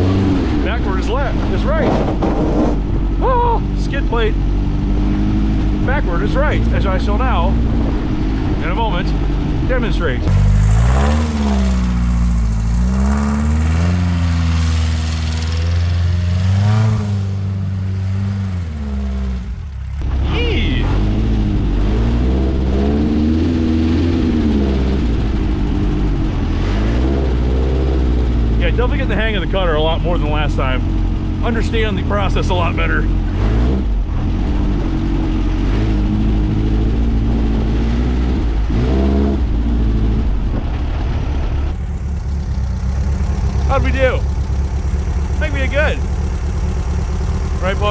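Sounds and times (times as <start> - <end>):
engine revving: 0.0 - 47.9.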